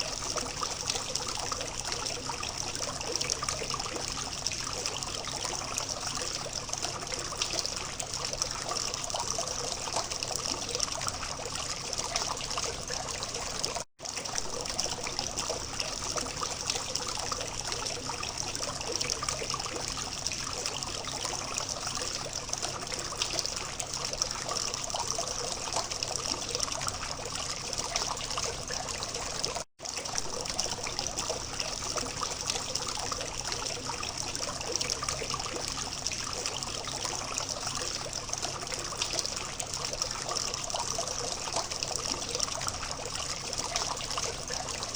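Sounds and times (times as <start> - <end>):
fountain water trickling and splashing: 0.0 - 44.9.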